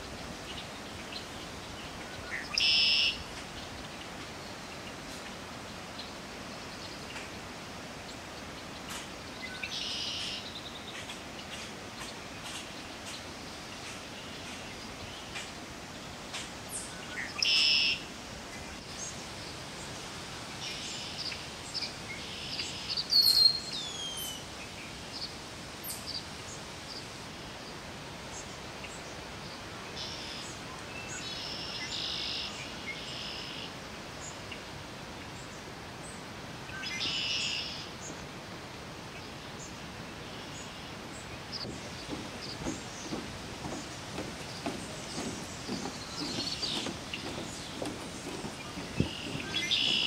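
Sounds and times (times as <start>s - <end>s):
faint hiss: 0.0s - 50.0s
songbirds chirping: 0.0s - 50.0s.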